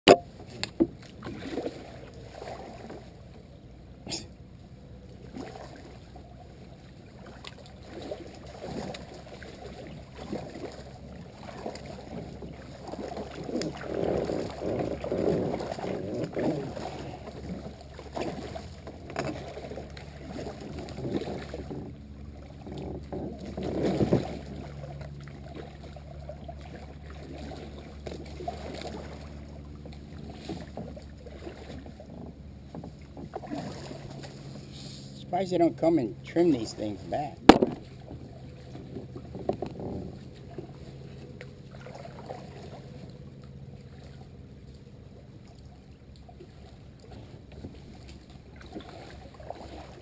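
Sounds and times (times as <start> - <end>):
paddle strokes in water: 0.1 - 50.0.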